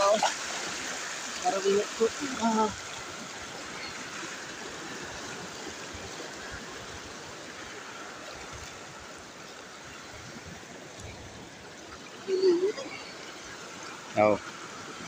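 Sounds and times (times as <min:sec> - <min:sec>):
seawater washing over rocks: 0:00.0 - 0:15.0.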